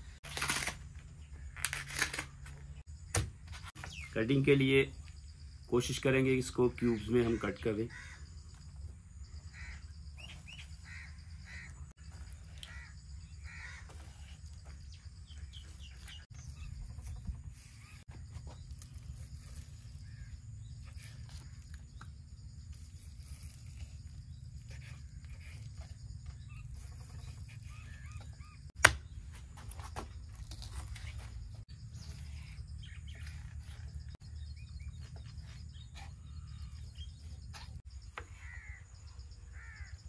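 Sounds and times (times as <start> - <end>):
birds calling: 1.0 - 40.0.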